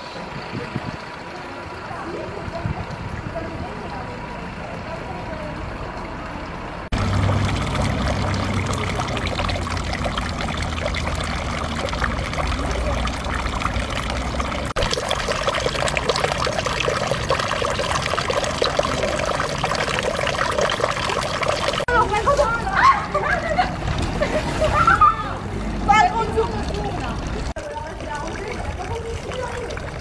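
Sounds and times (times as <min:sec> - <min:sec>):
water trickling into fountain basin: 0:00.0 - 0:30.0.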